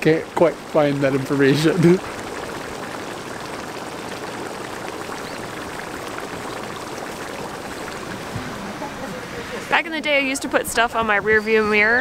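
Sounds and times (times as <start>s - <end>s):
hot spring bubbling and gurgling: 0.0s - 12.0s.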